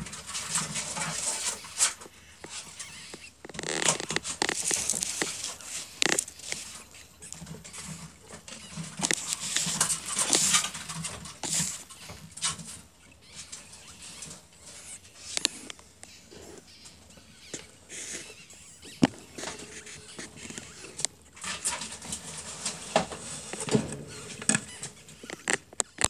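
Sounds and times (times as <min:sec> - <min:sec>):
ferret kits squeaking: 0:00.3 - 0:26.0.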